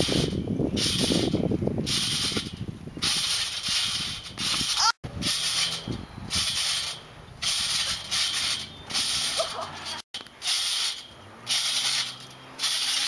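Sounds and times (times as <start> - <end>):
trampoline bouncing hiss: 0.0 - 13.0.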